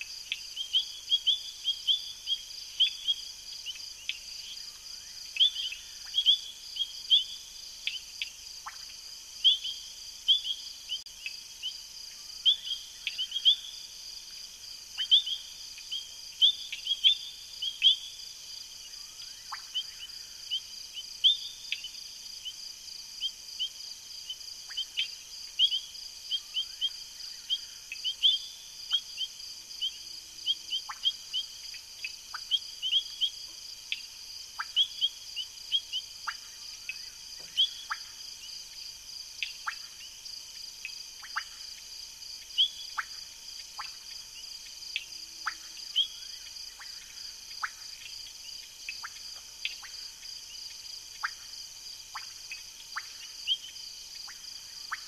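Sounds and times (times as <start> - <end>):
crickets trilling: 0.0 - 55.0
frogs peeping: 0.0 - 55.0.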